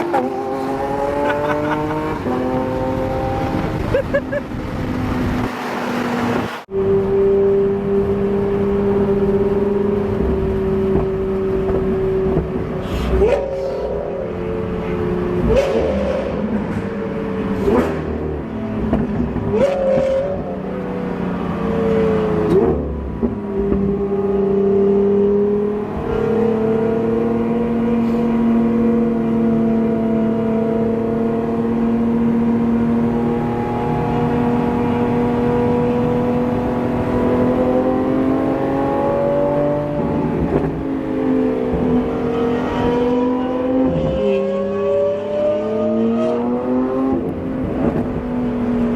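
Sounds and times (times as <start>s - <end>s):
sports car engine accelerating: 0.0s - 48.9s.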